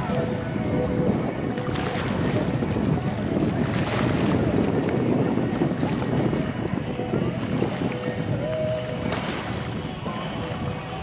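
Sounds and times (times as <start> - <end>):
boat motor running: 0.0 - 11.0
water noise: 0.0 - 11.0
wind buffeting microphone: 0.0 - 11.0.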